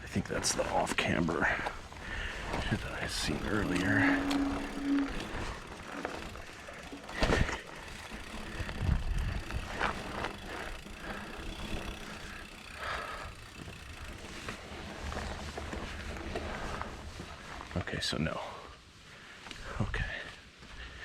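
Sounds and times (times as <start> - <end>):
bike tyres on rocky ground: 0.0 - 21.0.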